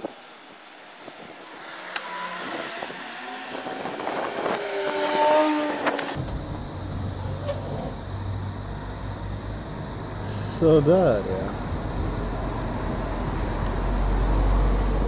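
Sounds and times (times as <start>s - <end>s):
low engine hum: 0.0s - 15.0s
passing vehicle engine and tyres: 0.0s - 15.0s.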